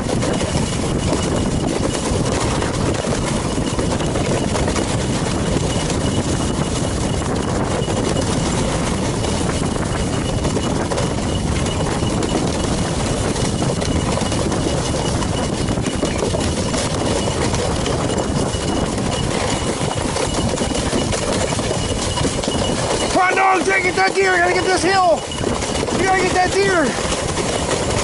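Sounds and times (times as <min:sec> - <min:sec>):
ski bike rumbling over snow: 0:00.0 - 0:28.0.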